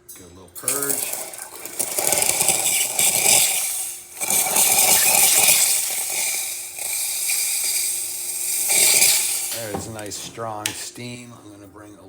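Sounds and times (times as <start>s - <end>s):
crackling hiss of steam: 0.0s - 11.3s.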